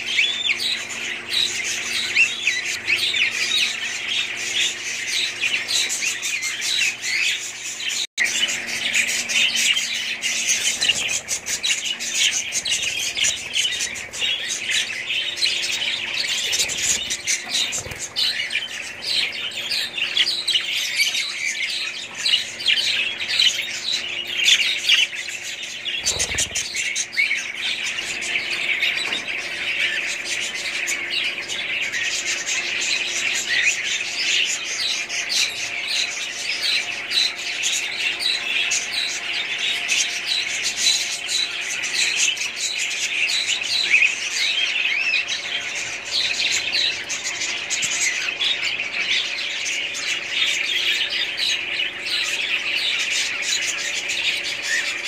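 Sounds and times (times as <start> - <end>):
budgerigars chattering: 0.0 - 55.0
faint steady hum: 0.0 - 55.0.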